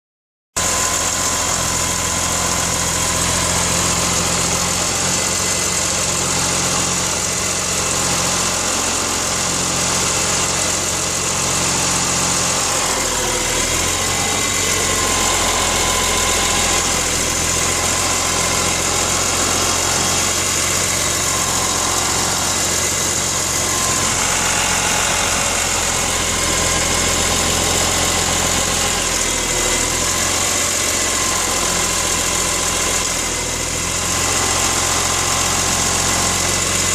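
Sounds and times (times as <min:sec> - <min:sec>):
engine idling with grinding rattle: 0:00.6 - 0:36.9.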